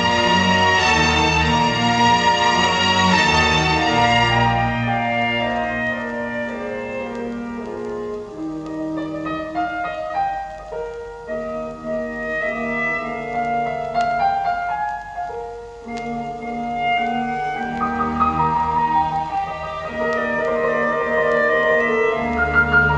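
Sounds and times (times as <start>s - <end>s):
instrumental music over loudspeakers: 0.0s - 22.9s.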